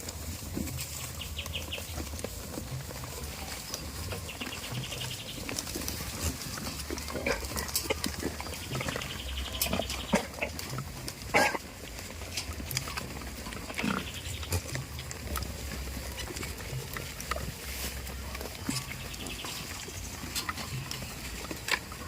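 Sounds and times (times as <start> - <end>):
clicks and rustles: 0.0 - 22.0
goats grunting: 0.0 - 22.0.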